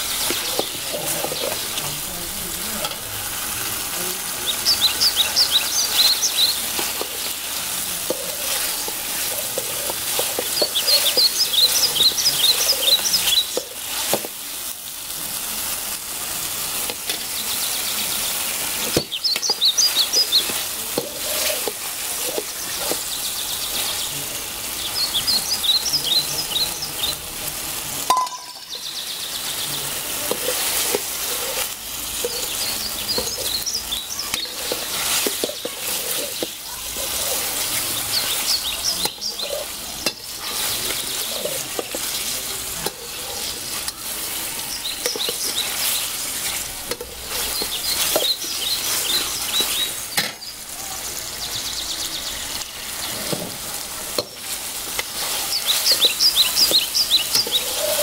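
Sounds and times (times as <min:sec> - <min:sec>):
curry sizzling in a wok: 0:00.0 - 0:58.0.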